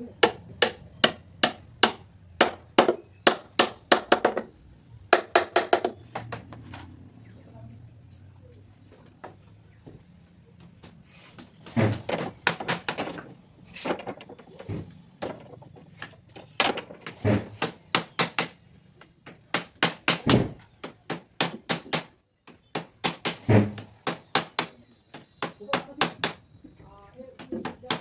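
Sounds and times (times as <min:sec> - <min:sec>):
hammering on wood: 0:00.1 - 0:04.5, 0:05.1 - 0:06.6, 0:10.6 - 0:28.0.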